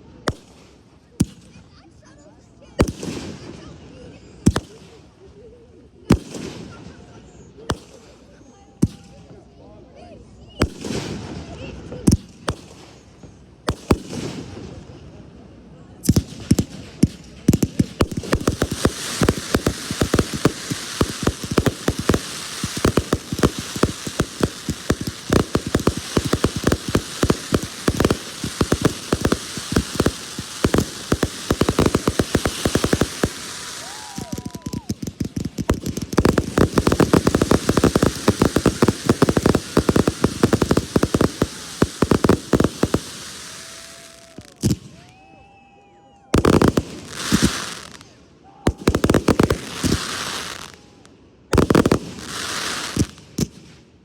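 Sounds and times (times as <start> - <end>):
fireworks crackling: 0.0 - 9.3, 10.5 - 15.2, 15.9 - 45.1, 46.3 - 53.8.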